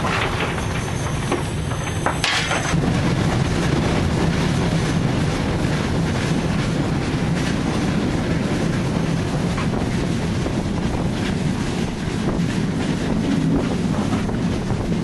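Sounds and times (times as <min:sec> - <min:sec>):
steam locomotive rumble and rattle: 0:00.0 - 0:15.0.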